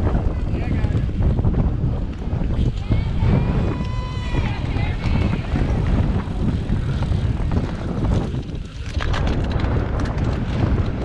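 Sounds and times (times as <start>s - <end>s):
bike rattling over rough dirt: 0.0s - 11.0s
wind buffeting microphone: 0.0s - 11.0s.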